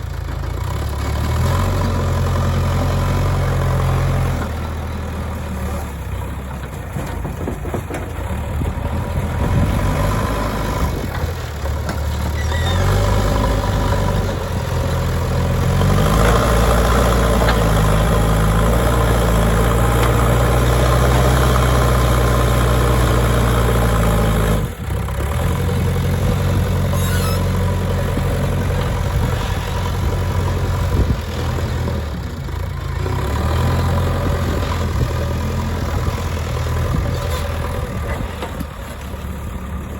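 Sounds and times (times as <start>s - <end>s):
backhoe diesel engine revving: 0.0s - 39.9s.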